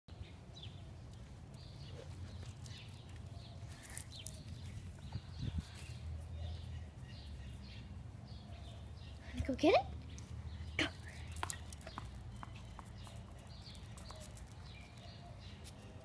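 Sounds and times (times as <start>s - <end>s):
bird chirps: 0.2s - 16.0s.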